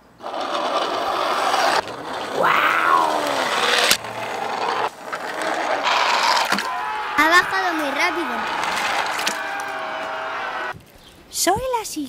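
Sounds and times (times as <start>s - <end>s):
toy wheels rolling on plastic: 0.2s - 10.2s.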